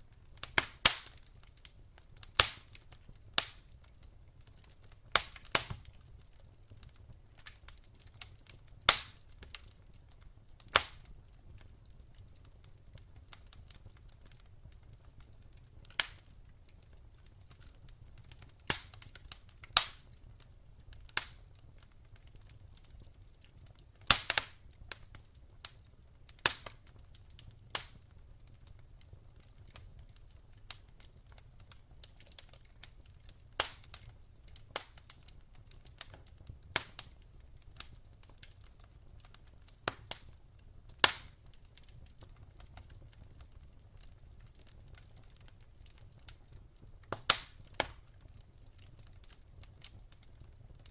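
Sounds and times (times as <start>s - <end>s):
low rumble of fire: 0.0s - 50.9s
campfire wood snapping: 0.1s - 50.9s.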